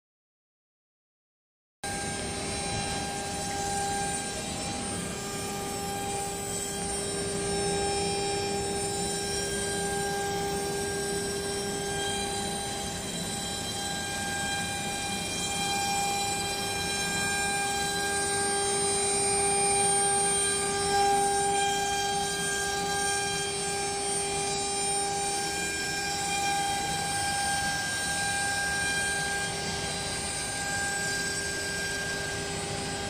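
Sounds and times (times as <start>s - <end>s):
router spindle whine: 1.8s - 33.0s.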